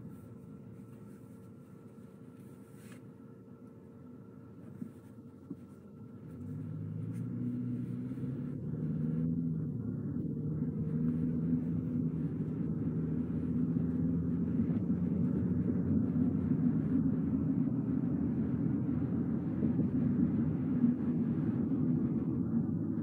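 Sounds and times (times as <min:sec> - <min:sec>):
car driving on road: 0:00.0 - 0:23.0
faint steady hum: 0:00.0 - 0:23.0.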